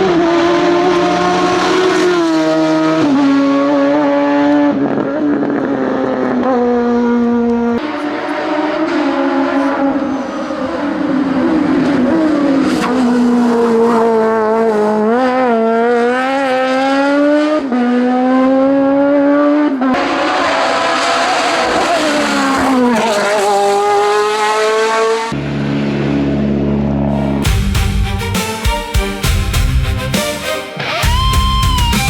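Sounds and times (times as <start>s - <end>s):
race car engine accelerating: 0.0s - 27.5s.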